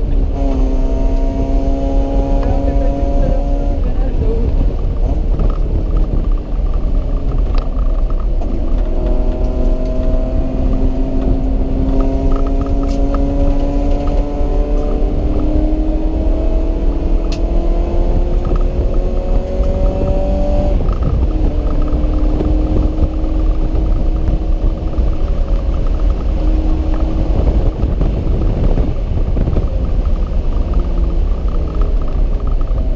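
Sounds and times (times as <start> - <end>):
car engine pulling hard: 0.0 - 32.9.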